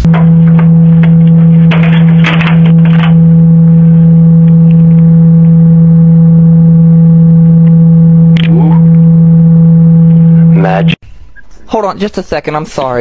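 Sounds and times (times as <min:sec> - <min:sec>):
loud steady low hum: 0:00.0 - 0:11.7.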